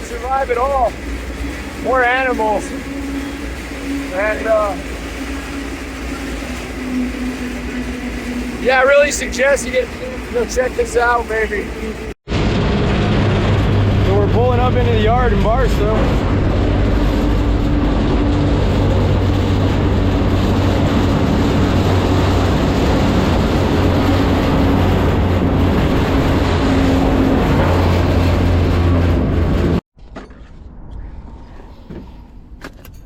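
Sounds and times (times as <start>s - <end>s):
freight train rumbling: 0.0s - 29.8s
low hum: 0.0s - 33.0s.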